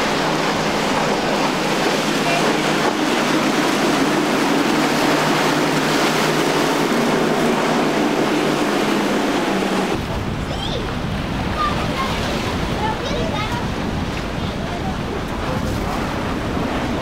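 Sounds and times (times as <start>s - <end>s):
outboard motors running: 0.0s - 17.0s
sea waves: 0.0s - 17.0s
spray and wake rushing: 0.0s - 17.0s
wind buffeting microphone: 0.0s - 17.0s.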